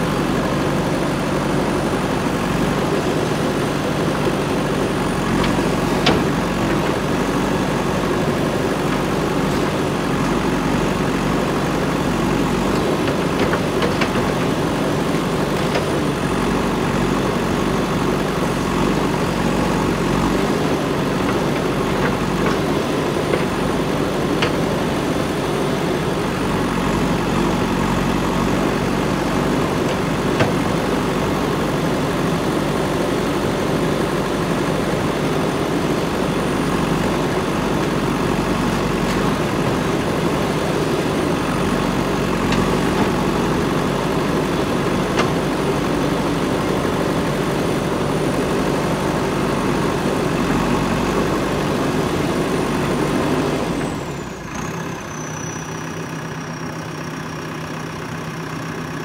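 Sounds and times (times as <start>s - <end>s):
backhoe digging soil: 0.0s - 55.6s
diesel engine running: 0.0s - 59.0s.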